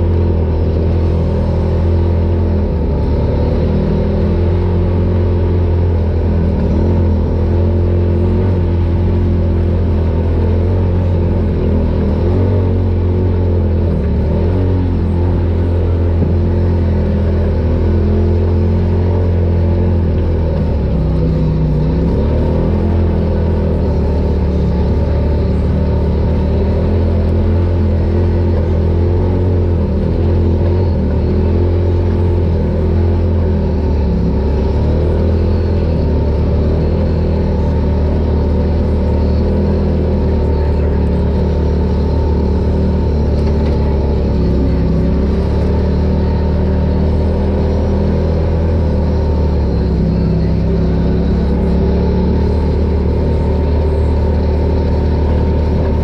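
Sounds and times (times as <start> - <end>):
engine low rumble: 0.0 - 56.0.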